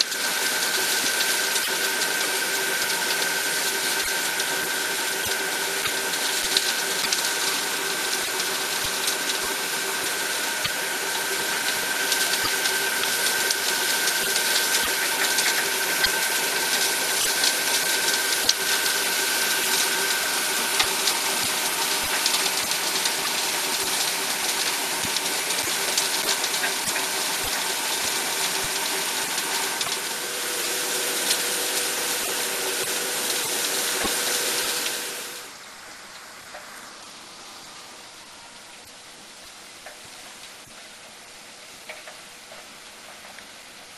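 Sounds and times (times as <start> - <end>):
machine hissing rush: 0.0 - 38.5
steady machine tones: 0.0 - 41.8.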